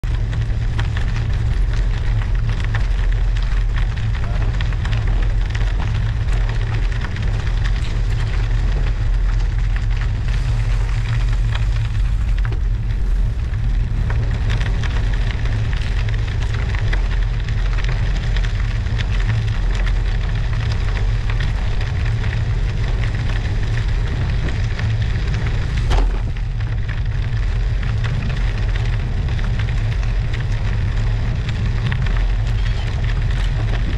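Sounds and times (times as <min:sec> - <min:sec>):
studded tyres crunching on ice: 0:00.0 - 0:33.9
wind rumbling on microphone: 0:00.0 - 0:33.9.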